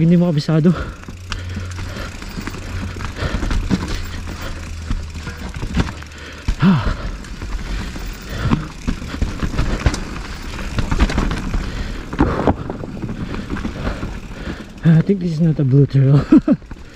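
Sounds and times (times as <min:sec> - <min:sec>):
bike rattling over bumps: 0:00.0 - 0:16.9
bike tyres on dirt trail: 0:00.0 - 0:16.9.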